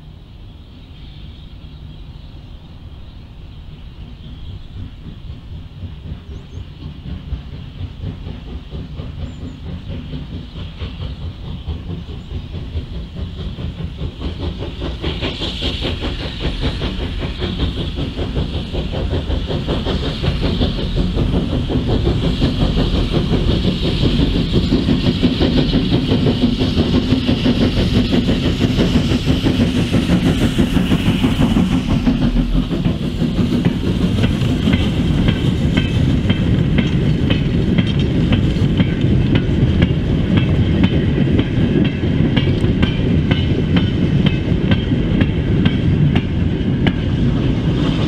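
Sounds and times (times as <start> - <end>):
steam hissing: 0.0 - 48.0
steam locomotive exhaust beats: 0.0 - 48.0
wheels clattering on rail joints: 4.1 - 48.0.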